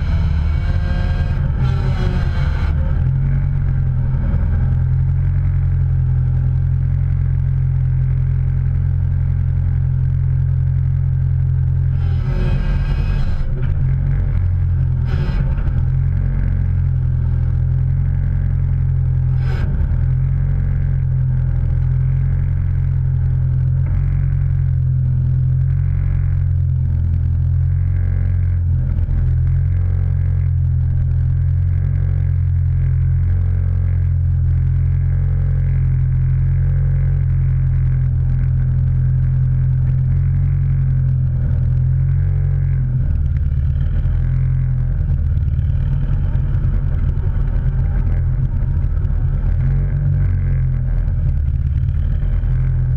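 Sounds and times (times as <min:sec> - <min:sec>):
vehicle engine droning: 0:00.0 - 0:52.9.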